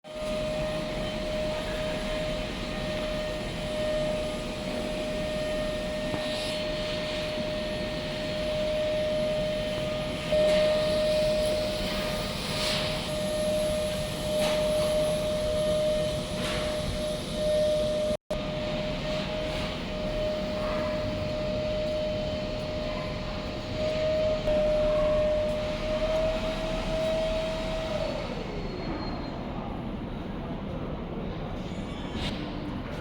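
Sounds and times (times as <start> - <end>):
laser cutter fan rush: 0.1 - 33.0.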